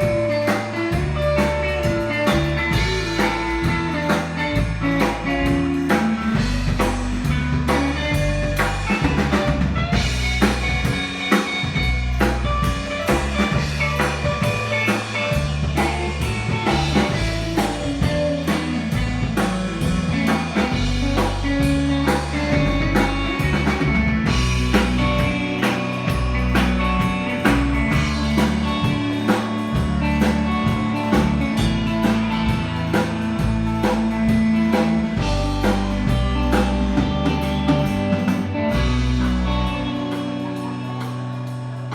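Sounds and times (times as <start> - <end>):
bass guitar: 0.0 - 41.9
drum kit beat: 0.0 - 41.9
electric guitar: 0.0 - 41.9.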